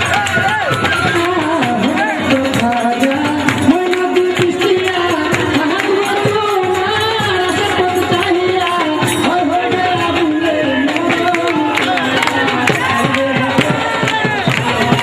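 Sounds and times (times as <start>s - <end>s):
drums and instruments: 0.0s - 15.0s.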